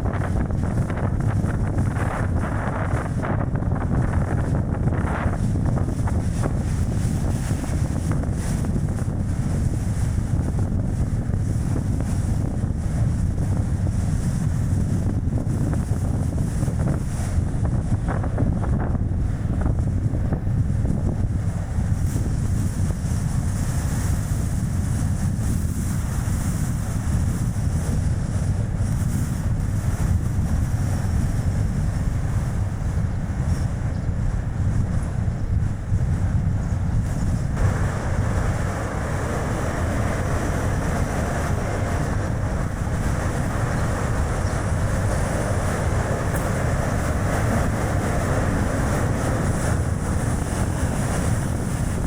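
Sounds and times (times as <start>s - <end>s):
road and tyre noise: 0.0s - 52.0s
wind buffeting microphone: 0.0s - 52.0s.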